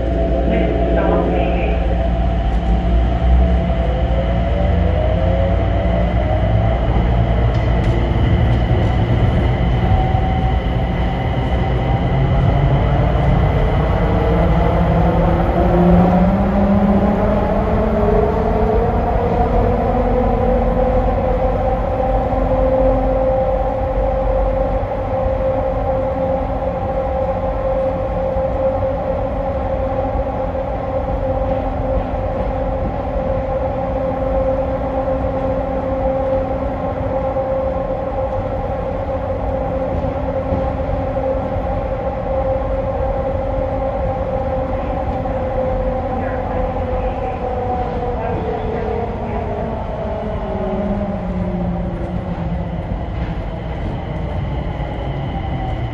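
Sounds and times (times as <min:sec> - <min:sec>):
steady rumble: 0:00.0 - 0:55.9
train drive whine: 0:00.0 - 0:55.9.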